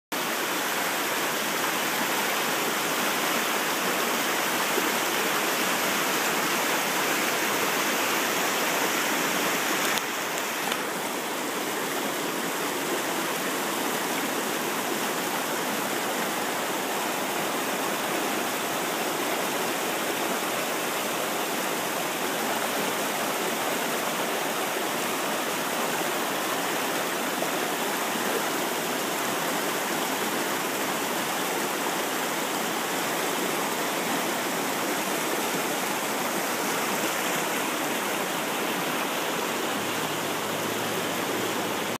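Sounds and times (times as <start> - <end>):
mountain stream flowing: 0.1 - 41.9.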